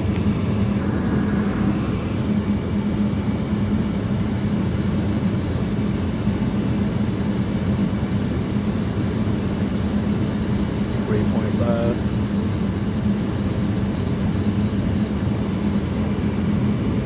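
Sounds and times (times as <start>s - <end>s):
gas furnace droning: 0.0s - 17.0s.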